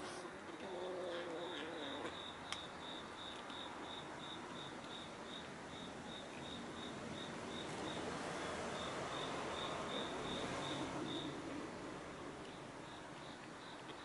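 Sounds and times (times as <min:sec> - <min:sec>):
faint background noise: 0:00.0 - 0:14.0
cricket chirping: 0:00.8 - 0:11.4, 0:12.4 - 0:14.0.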